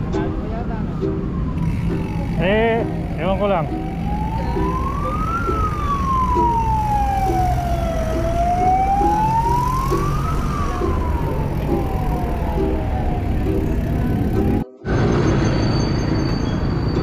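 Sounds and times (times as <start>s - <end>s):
siren wailing: 0.0s - 16.8s
low rumble of traffic: 0.0s - 17.0s.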